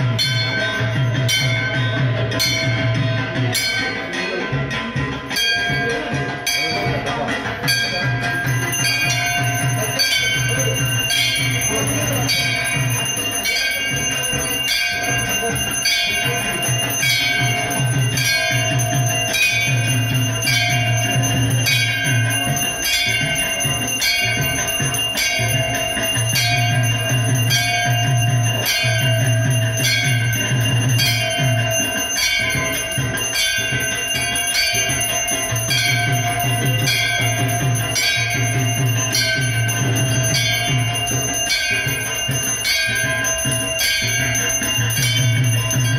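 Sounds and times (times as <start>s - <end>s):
brass bells ringing: 0.0s - 45.9s.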